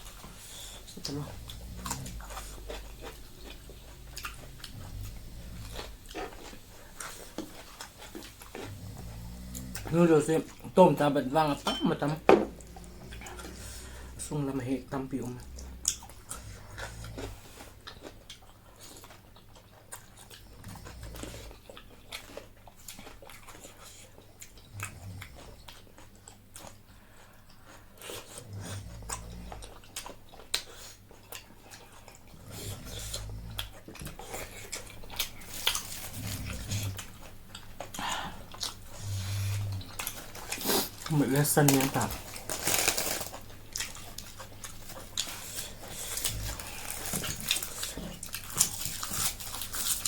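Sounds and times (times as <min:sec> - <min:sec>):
chewing and slurping noodles: 0:00.0 - 0:10.7, 0:12.5 - 0:14.3, 0:15.2 - 0:50.0.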